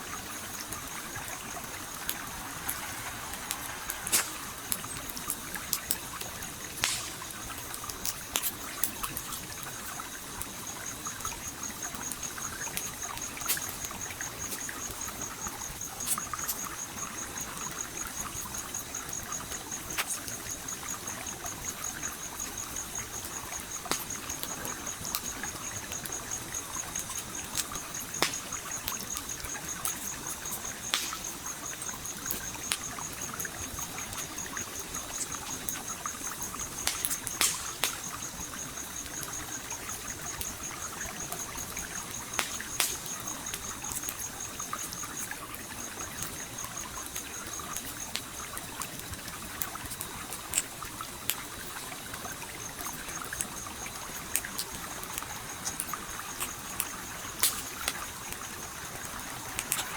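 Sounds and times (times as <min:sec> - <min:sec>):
campfire crackling and popping: 0:00.0 - 0:59.9
stream trickling: 0:00.0 - 0:59.9.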